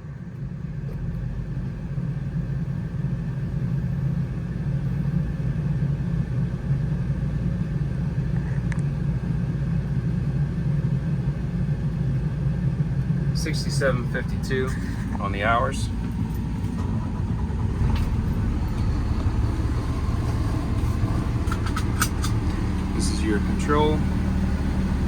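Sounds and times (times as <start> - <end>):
diesel engine starting and idling: 0.0 - 25.0.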